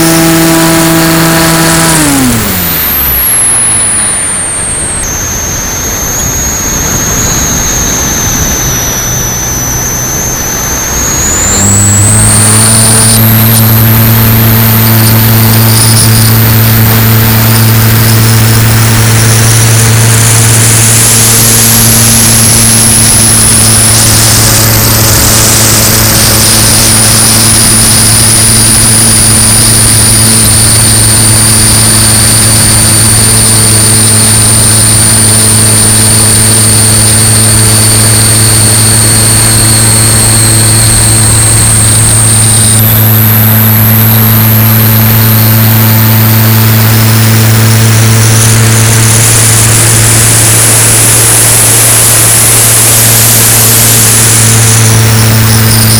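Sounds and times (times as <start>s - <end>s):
light aircraft engine drone: 0.0s - 55.9s
thin high whine: 0.0s - 55.9s.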